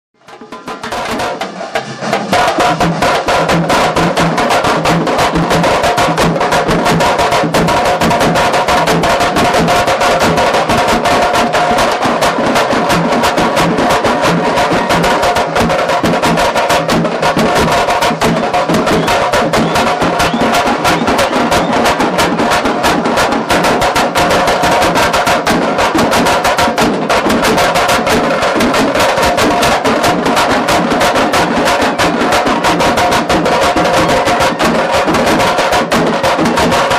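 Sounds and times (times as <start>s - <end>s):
music with fast dense percussion: 0.2s - 36.9s.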